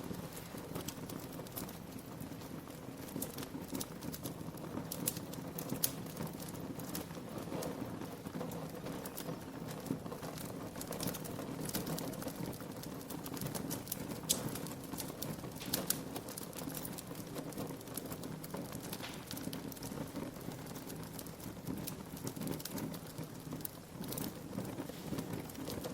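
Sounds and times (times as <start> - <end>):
log fire crackling and popping: 0.0 - 25.9.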